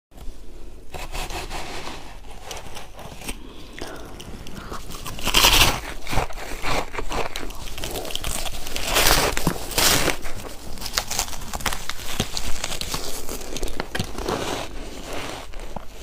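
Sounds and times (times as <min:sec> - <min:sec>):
shaved ice crunching: 0:02.0 - 0:16.0.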